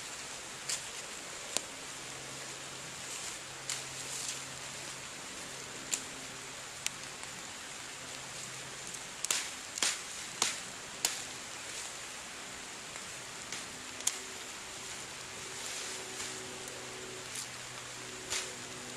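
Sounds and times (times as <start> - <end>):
light rain hiss: 0.0 - 18.9.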